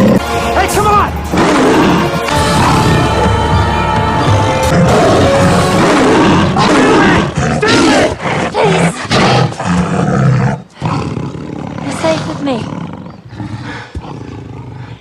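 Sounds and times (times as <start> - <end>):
big cat roars and snarls: 0.0 - 0.2, 1.3 - 3.1, 4.6 - 15.0.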